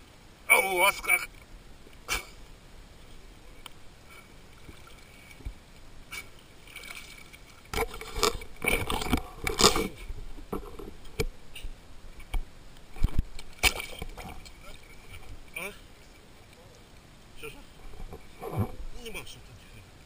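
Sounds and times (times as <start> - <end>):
water sloshing and splashing: 1.1 - 19.1.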